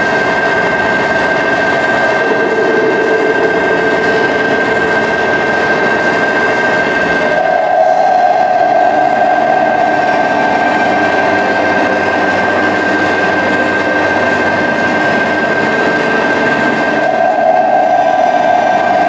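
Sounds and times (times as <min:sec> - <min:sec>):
engine-like mechanical drone: 0:00.0 - 0:19.0
high whine: 0:00.0 - 0:19.0
low hum: 0:00.0 - 0:19.0.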